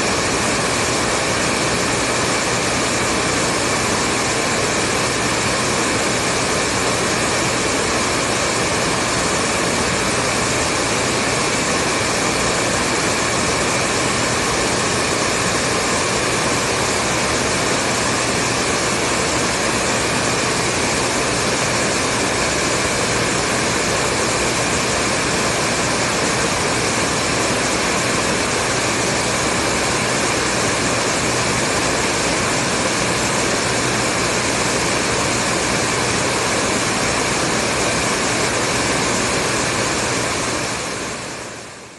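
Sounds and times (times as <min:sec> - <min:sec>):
hair dryer running: 0:00.0 - 0:41.9.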